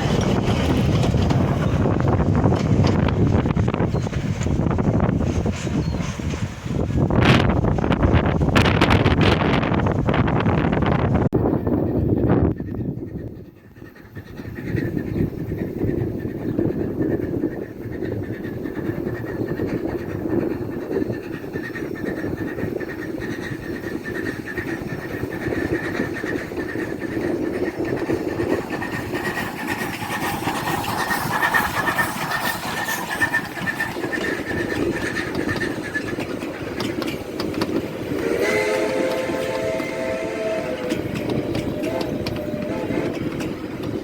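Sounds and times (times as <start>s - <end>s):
train rumble and rattle: 0.0s - 44.0s.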